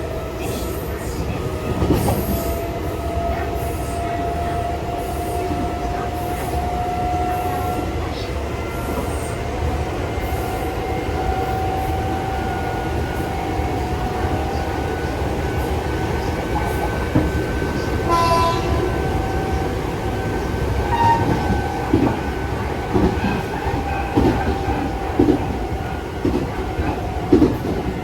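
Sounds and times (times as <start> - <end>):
electric train running: 0.0 - 28.0.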